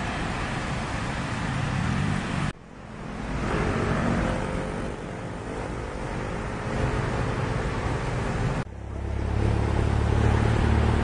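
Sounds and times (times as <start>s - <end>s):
car passing: 0.0s - 11.0s
traffic on wet road: 0.0s - 11.0s.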